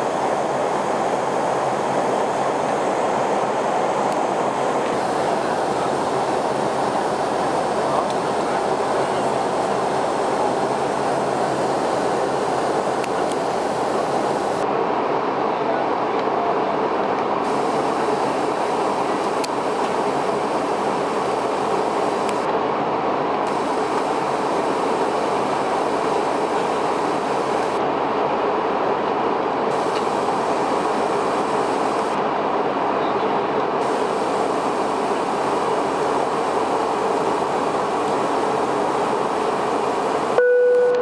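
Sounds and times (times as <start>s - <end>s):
airplane cabin noise: 0.0s - 41.0s.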